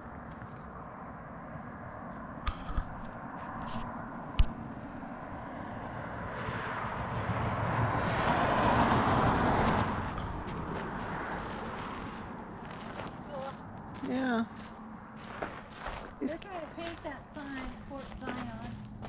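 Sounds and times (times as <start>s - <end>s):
vehicle passing: 3.0s - 19.0s.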